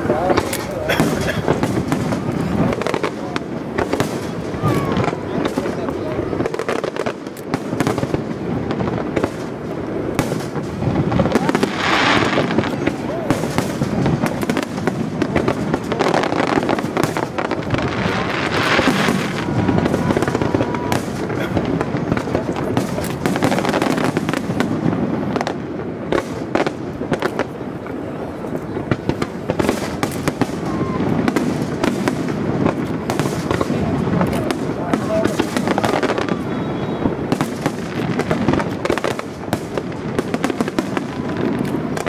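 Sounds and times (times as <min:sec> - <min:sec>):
fireworks bursting and crackling: 0:00.0 - 0:42.0.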